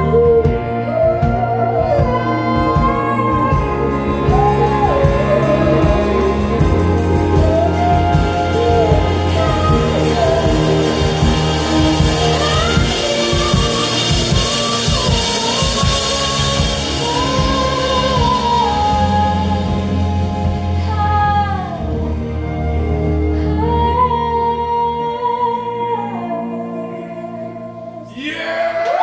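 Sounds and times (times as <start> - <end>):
live band playing: 0.0 - 29.0.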